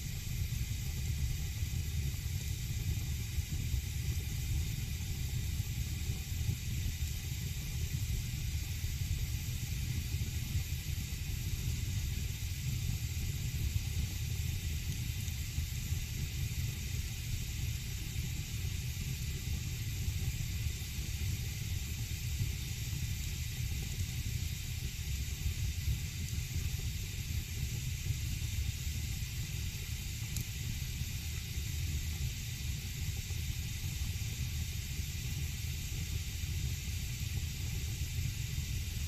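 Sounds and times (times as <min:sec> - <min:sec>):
wood fire burning: 0:00.0 - 0:39.0.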